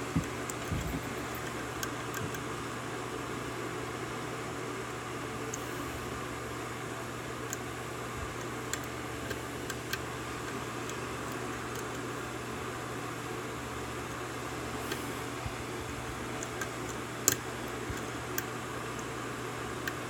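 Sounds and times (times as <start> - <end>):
steady hum and hiss: 0.0 - 20.0.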